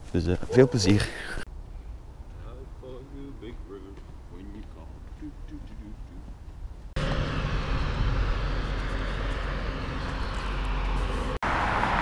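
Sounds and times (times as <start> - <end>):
road traffic rumble: 0.0 - 12.0
wind: 0.0 - 12.0.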